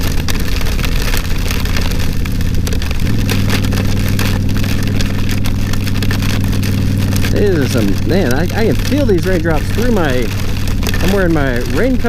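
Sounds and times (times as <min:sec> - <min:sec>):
motorcycle engine running: 0:00.0 - 0:12.0
raindrops spattering on helmet: 0:00.0 - 0:12.0.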